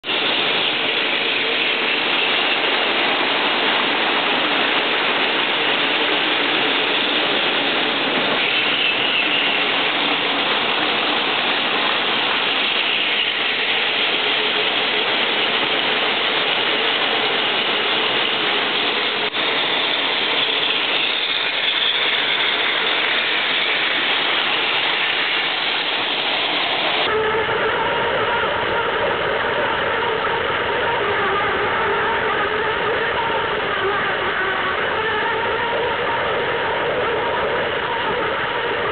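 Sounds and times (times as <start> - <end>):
close whine with steady tones: 0.0 - 38.9.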